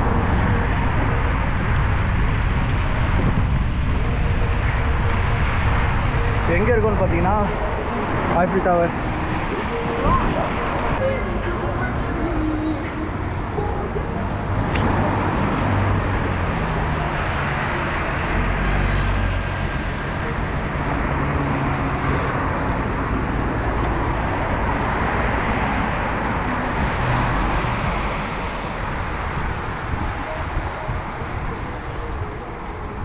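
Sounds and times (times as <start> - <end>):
traffic on wet road: 0.0 - 33.0
wind on microphone: 0.0 - 33.0.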